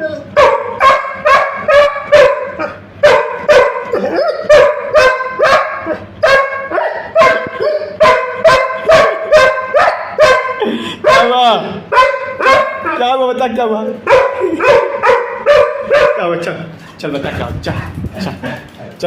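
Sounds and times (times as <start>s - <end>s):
puppy barking: 0.1s - 13.0s, 14.0s - 16.4s.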